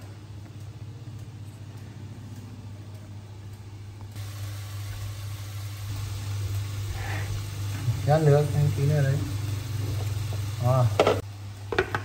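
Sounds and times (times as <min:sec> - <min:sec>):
kitchen appliance humming: 0:00.0 - 0:12.0
faint cooking hiss: 0:02.0 - 0:12.0.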